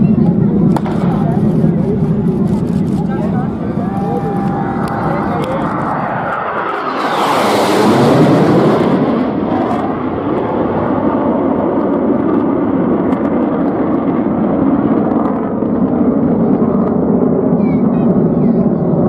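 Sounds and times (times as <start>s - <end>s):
jet aircraft flying past: 0.0s - 19.0s.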